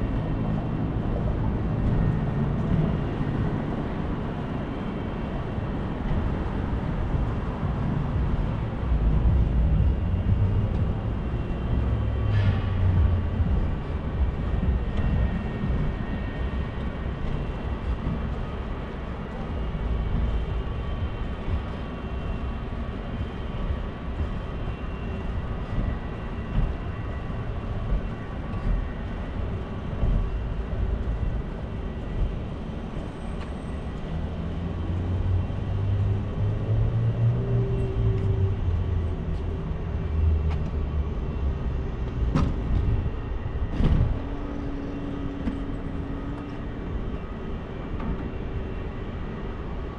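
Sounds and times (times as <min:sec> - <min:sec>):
city street traffic rumble: 0:00.0 - 0:49.9
wind buffeting microphone: 0:00.0 - 0:49.9.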